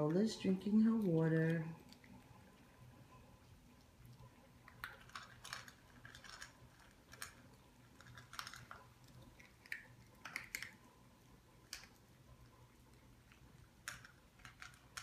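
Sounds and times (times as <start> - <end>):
dogs crunching food: 0.0 - 15.0.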